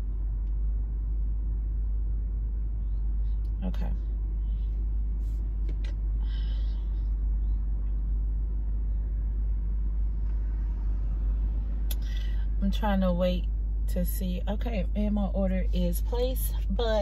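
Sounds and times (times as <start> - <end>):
car idling: 0.0 - 17.0.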